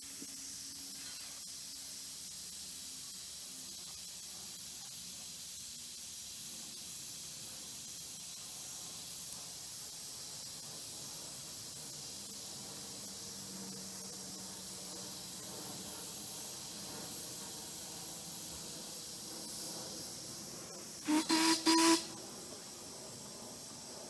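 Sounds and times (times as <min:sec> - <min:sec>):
train running hiss: 0:00.0 - 0:24.0.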